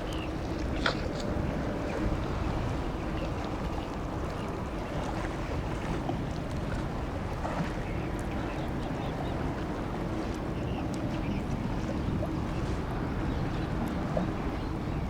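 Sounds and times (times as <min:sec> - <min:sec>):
ship engine rumble: 0:00.0 - 0:15.0
water noise: 0:00.0 - 0:15.0
wind: 0:00.0 - 0:15.0.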